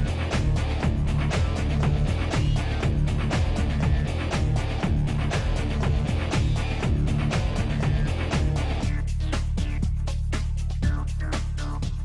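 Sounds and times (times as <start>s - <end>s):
low bass notes: 0.0s - 12.0s.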